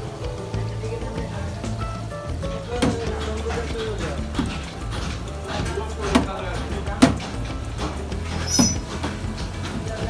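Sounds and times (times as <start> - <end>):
music playing: 0.0 - 10.0
sharp knocks: 1.4 - 10.0.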